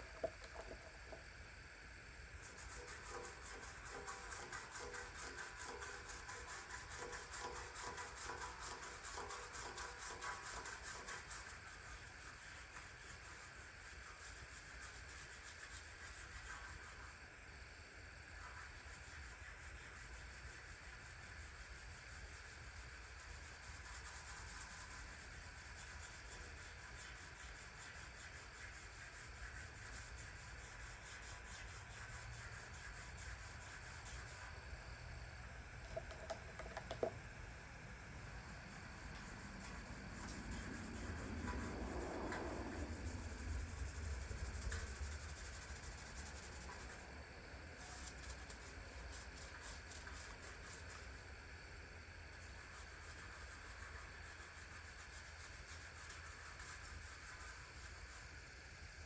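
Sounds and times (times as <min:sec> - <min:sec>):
rapid rubbing strokes: 0:02.4 - 0:17.2, 0:18.4 - 0:35.0, 0:38.4 - 0:47.2, 0:47.8 - 0:51.3, 0:52.4 - 0:58.4.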